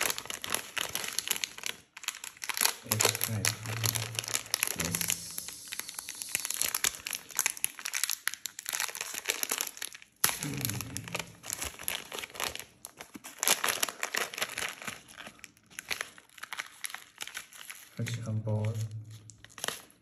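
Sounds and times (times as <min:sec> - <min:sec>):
plastic wrapper crinkling: 0:00.0 - 0:20.0.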